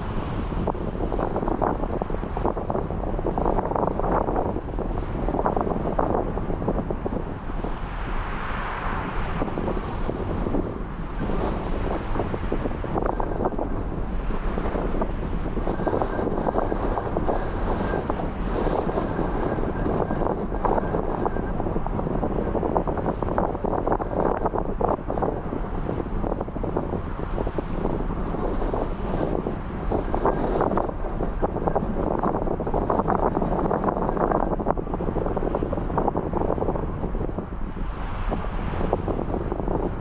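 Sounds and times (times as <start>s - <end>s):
gusty wind buffeting microphone: 0.0s - 40.0s.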